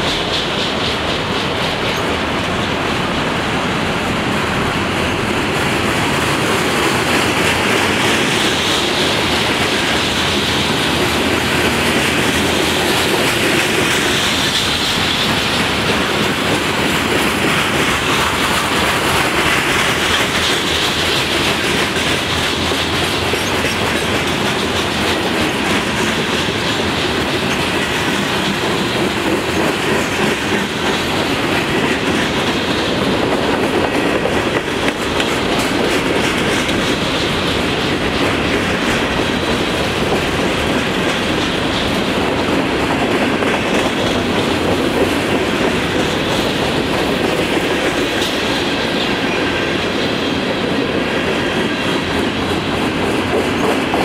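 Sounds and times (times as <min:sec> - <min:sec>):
train rolling rumble: 0:00.0 - 0:54.0
wheels clicking over rail joints: 0:04.2 - 0:54.0.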